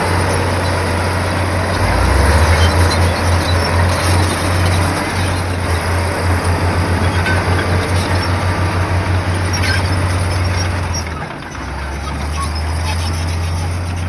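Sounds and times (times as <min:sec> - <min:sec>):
heavy machinery diesel engine throbbing: 0:00.0 - 0:14.0.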